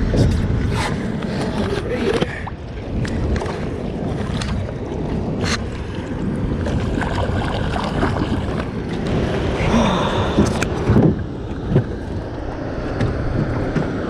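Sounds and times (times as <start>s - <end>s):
wind noise on microphone: 0.0s - 14.0s
water splashing: 0.8s - 12.6s.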